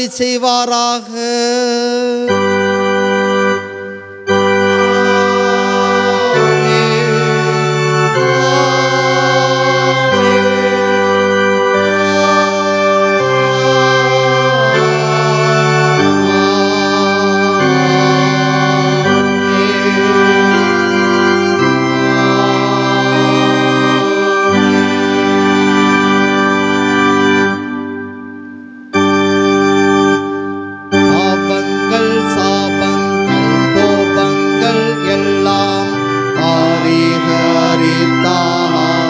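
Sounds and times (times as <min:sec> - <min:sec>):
organ playing held chords: 0:00.0 - 0:39.0.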